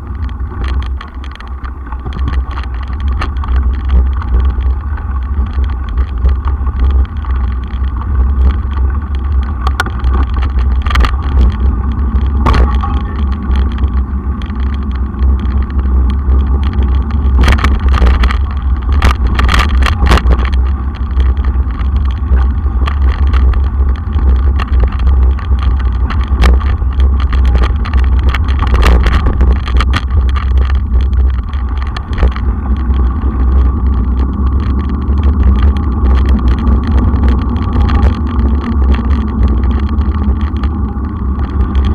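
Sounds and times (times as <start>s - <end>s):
bike heavy low rumble: 0.0s - 41.9s
bike rattling and knocking over bumps: 0.0s - 41.9s.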